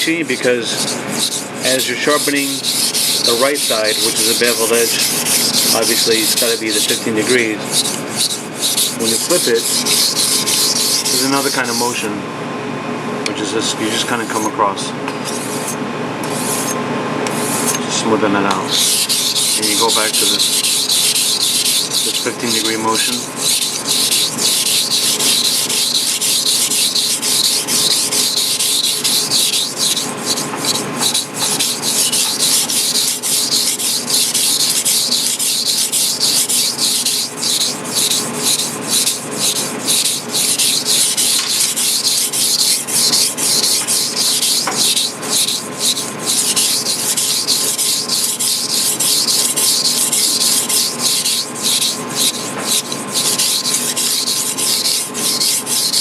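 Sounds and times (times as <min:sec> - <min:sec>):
knife scraping on whetstone: 0:00.0 - 0:12.0, 0:15.2 - 0:17.8, 0:18.7 - 0:56.0.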